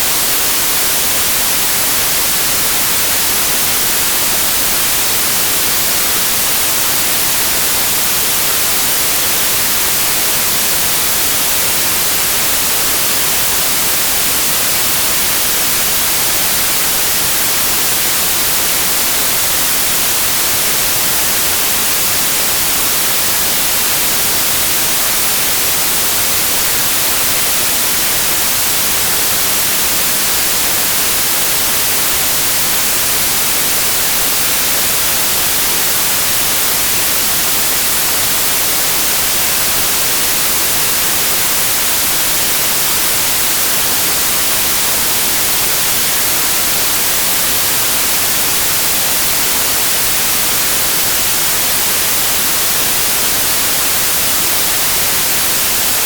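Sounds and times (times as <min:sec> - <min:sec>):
steady white noise hiss: 0:00.0 - 0:56.0.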